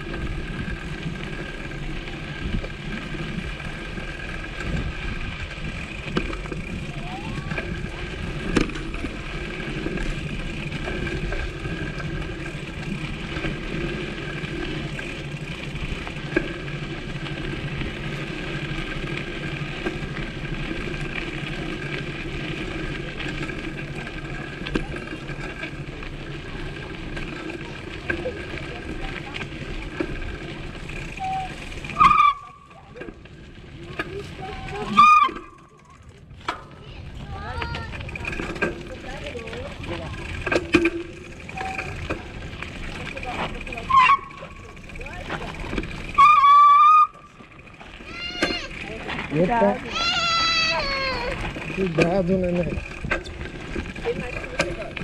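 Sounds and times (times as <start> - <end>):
bicycle rolling over rough path: 0.0 - 55.0.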